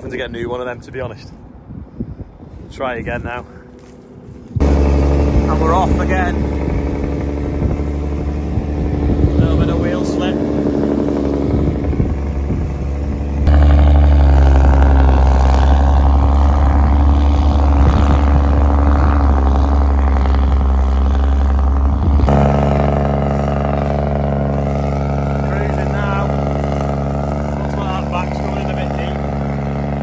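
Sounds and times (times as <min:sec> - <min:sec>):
tractor engine under load: 0:04.0 - 0:30.0.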